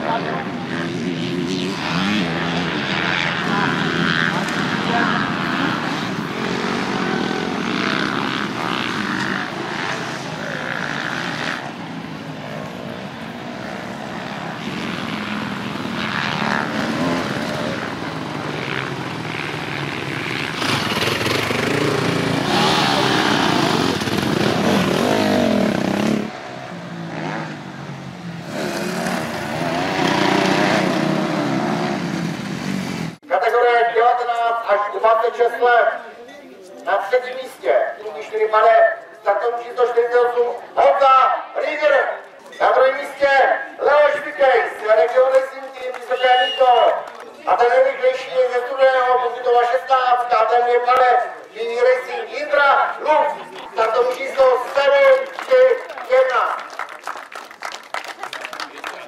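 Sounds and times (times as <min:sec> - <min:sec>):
motocross bike engines revving: 0:00.0 - 0:33.3, 0:37.0 - 0:56.6.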